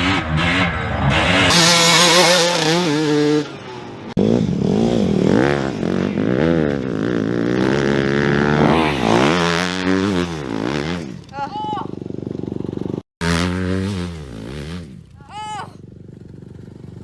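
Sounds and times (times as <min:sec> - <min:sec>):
dirt bike engine revving: 0:01.2 - 0:15.0.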